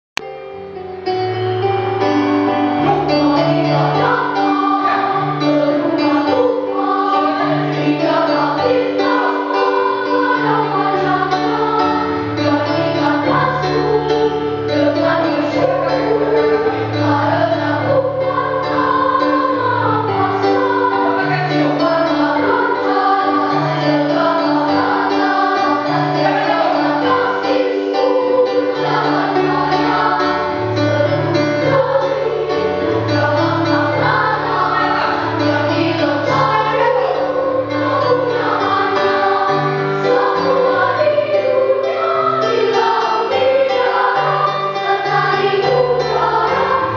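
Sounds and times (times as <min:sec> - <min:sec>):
children's choir singing: 0:01.6 - 0:46.9.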